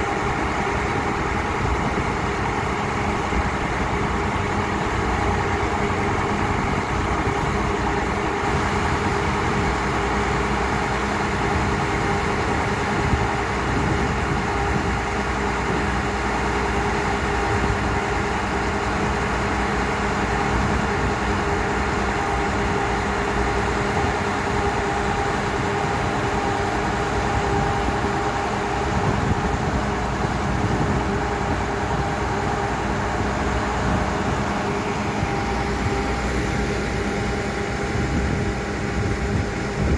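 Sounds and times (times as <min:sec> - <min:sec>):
drilling rig engine humming: 0:00.0 - 0:39.9.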